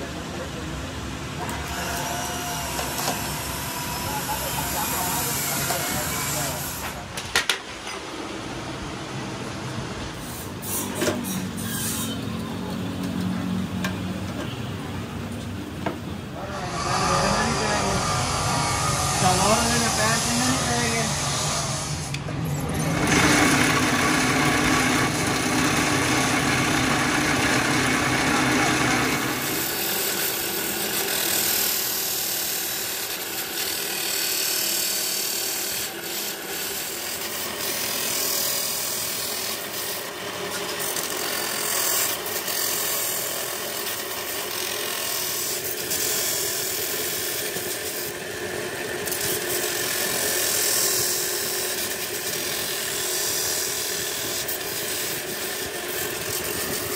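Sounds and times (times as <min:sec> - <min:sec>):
low drill hum: 0:01.4 - 0:07.0, 0:16.4 - 0:56.9
metal grinding on abrasive disc: 0:01.4 - 0:07.0, 0:10.2 - 0:12.4, 0:16.4 - 0:48.2, 0:49.0 - 0:56.9.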